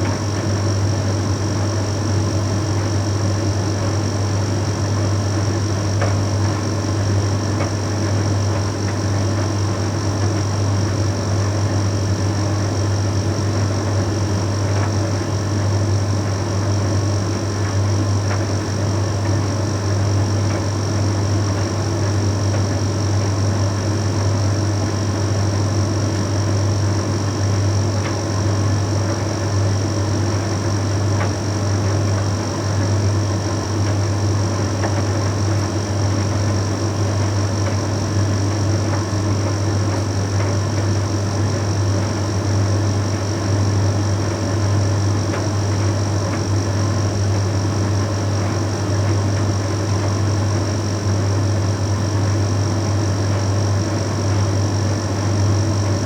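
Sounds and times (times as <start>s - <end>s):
tumble dryer running: 0.0s - 56.0s.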